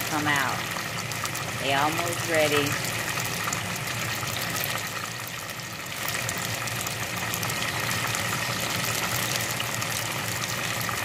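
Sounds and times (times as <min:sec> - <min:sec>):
low steady hum: 0:00.0 - 0:11.0
oil sizzling and crackling: 0:00.0 - 0:11.0.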